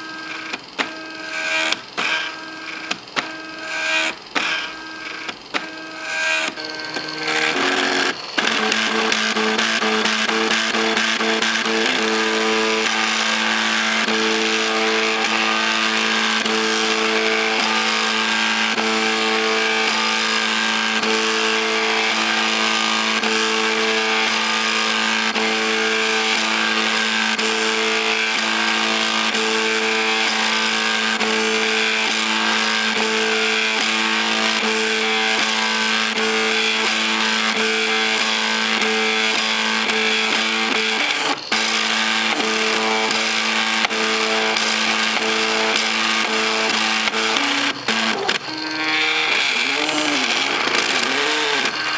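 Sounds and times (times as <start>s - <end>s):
printer stepper motors whining: 0.0s - 51.9s.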